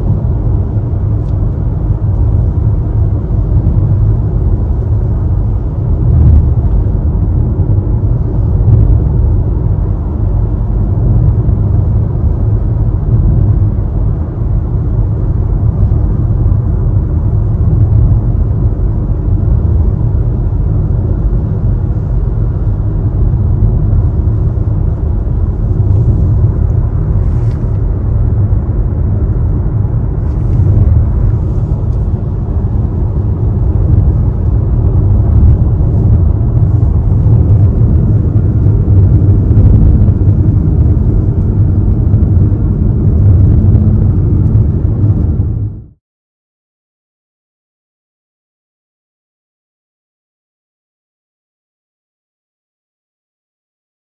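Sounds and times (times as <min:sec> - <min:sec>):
car driving on wet road: 0:00.0 - 0:45.8.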